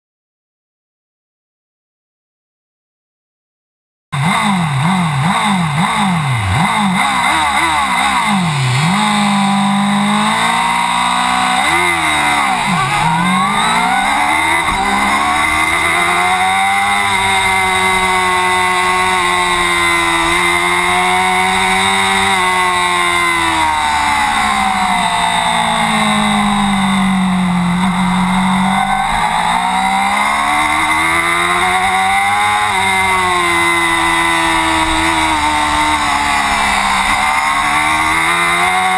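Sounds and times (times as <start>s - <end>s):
racing motorcycle engine revving: 4.2s - 38.9s.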